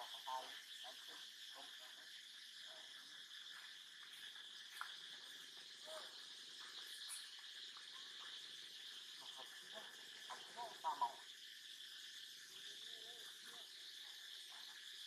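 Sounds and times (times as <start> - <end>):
faint chirps: 0.0 - 15.0
high insect chorus: 0.0 - 15.0.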